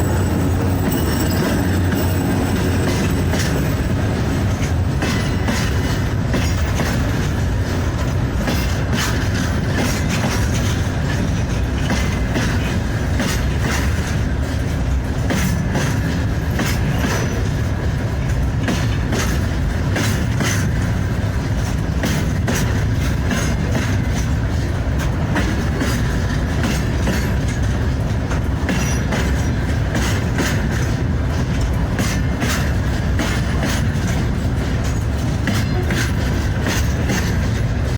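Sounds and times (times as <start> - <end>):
train rumbling on track: 0.0 - 37.9
wheels clicking over rails: 0.0 - 37.9.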